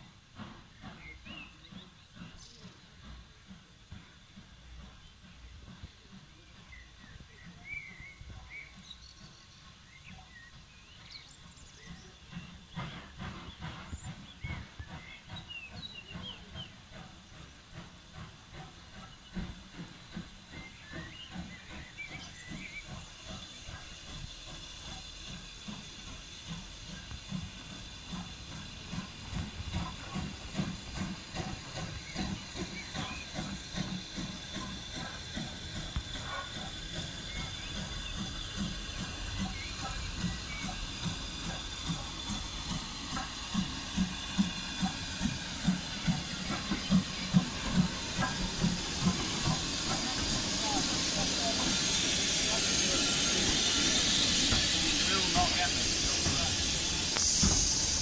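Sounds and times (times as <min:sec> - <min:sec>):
steam hissing: 0:00.0 - 0:58.0
steam locomotive chuffing: 0:00.0 - 0:58.0
birds chirping: 0:00.4 - 0:58.0.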